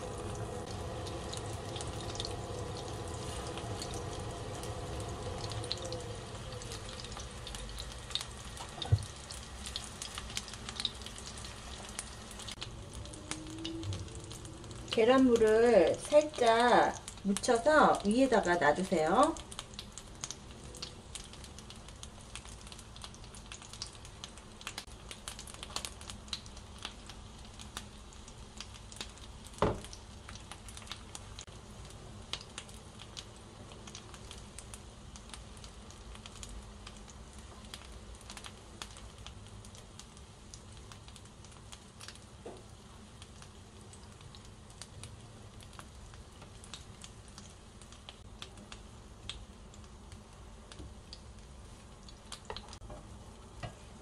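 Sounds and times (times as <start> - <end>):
fritters sizzling in oil: 0.0 - 54.0.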